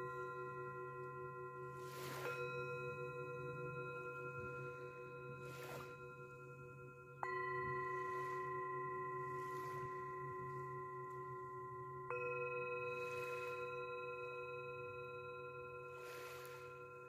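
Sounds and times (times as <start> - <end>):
chime-like tones: 0.0 - 17.0.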